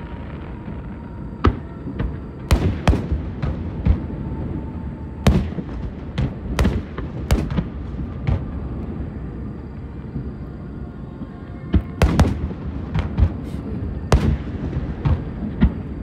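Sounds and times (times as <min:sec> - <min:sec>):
fireworks bursting with booms: 0:00.0 - 0:16.0.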